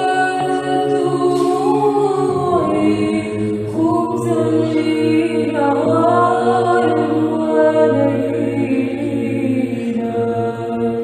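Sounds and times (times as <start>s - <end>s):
women's choir chanting: 0.0s - 11.0s.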